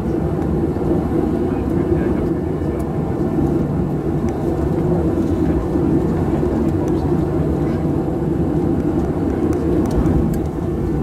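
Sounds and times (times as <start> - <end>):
jet engines low rumble: 0.0 - 11.0.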